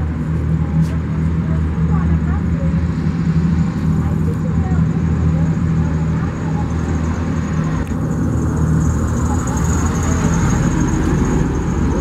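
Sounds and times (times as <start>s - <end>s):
heavy diesel engine running: 0.0s - 12.0s
road traffic: 0.0s - 12.0s
car passing: 1.4s - 12.0s.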